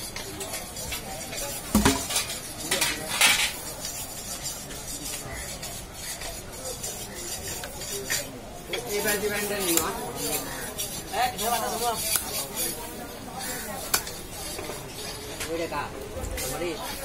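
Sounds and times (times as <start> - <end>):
street background noise: 0.0 - 17.0.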